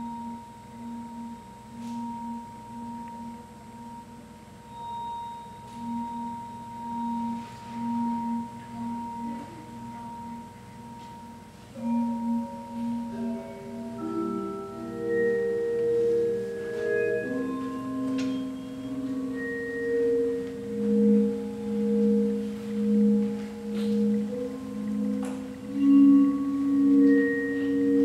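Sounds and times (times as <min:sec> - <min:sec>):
high ringing tone: 0:00.0 - 0:28.0
sustained bell-like notes: 0:00.0 - 0:28.0.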